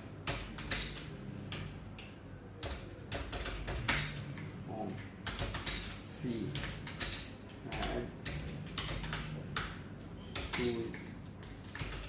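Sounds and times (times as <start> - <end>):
keyboard keys clicking: 0.2 - 12.0.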